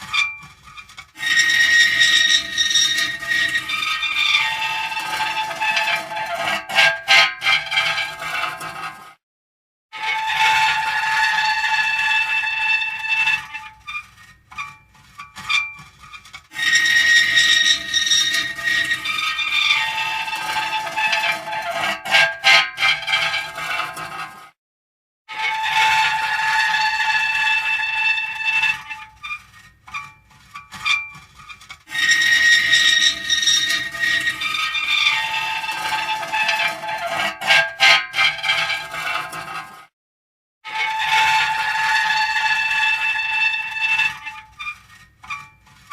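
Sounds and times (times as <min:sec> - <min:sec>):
short metal squeaks: 0:00.0 - 0:09.0, 0:10.0 - 0:24.4, 0:25.3 - 0:39.8, 0:40.7 - 0:45.9
metal creaking and squealing: 0:00.0 - 0:09.1, 0:10.0 - 0:24.5, 0:25.3 - 0:39.9, 0:40.7 - 0:45.9.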